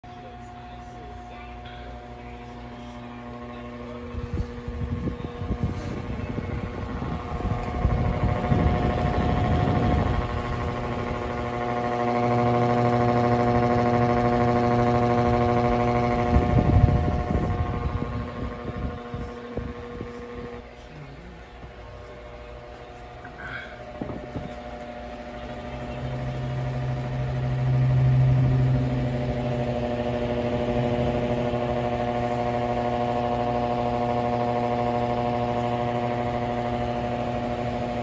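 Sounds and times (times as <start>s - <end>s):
fan motor hum: 0.0s - 38.0s
rush of air from fan: 1.6s - 38.0s.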